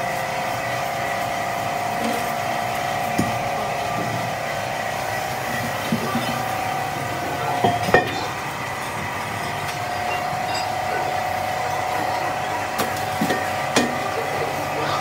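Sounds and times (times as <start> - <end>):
machine humming with whine: 0.0 - 15.0.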